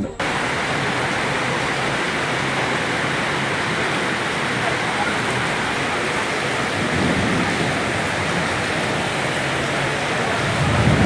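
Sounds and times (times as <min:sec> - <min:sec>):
heavy rain rushing: 0:00.2 - 0:11.0.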